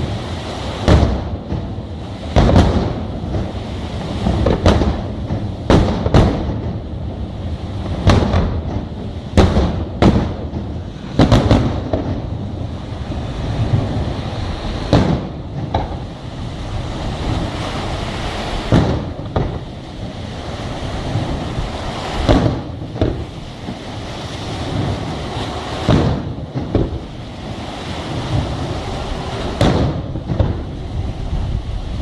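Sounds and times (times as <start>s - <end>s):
fireworks bursting: 0.0s - 31.6s
wind on microphone: 0.0s - 32.0s.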